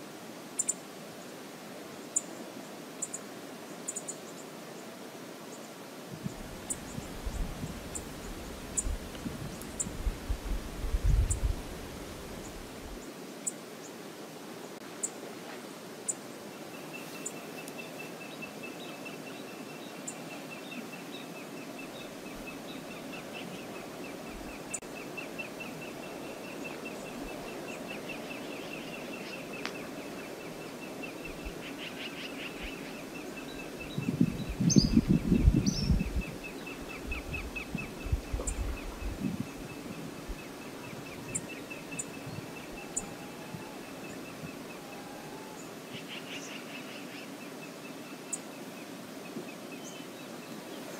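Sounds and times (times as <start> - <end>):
steady hiss: 0.0 - 50.9.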